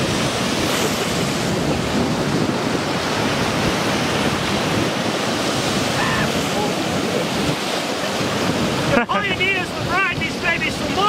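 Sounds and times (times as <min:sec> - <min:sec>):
surf breaking on rocky shore: 0:00.0 - 0:11.0.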